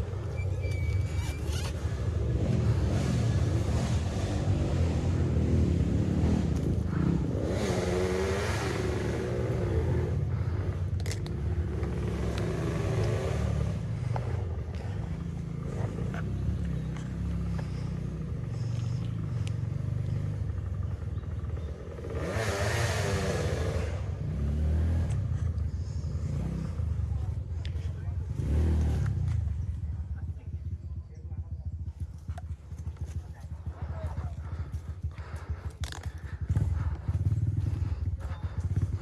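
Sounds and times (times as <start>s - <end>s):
dirt bike engine revving: 0.0s - 29.7s, 32.2s - 39.0s.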